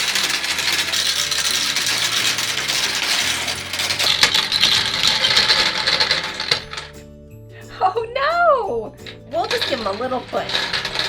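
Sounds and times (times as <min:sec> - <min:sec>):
gumballs rattling down plastic run: 0:00.0 - 0:07.0, 0:09.0 - 0:11.0.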